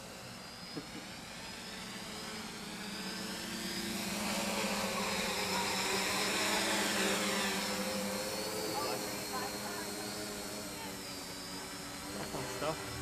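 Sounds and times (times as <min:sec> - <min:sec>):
quadcopter propellers whirring: 0:00.0 - 0:13.0.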